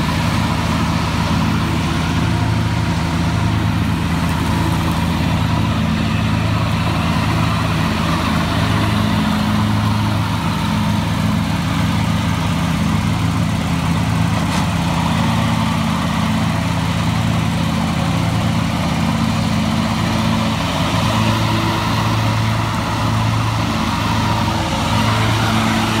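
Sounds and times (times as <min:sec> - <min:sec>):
lawn mower running: 0:00.0 - 0:26.0.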